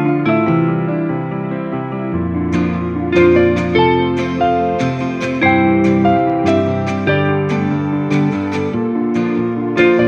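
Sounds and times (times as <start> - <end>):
gentle instrumental music: 0.0 - 10.0.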